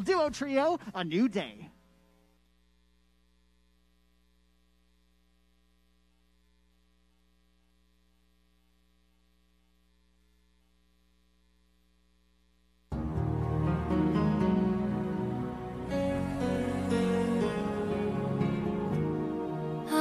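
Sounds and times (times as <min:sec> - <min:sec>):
faint electrical mains hum: 0:00.0 - 0:20.0.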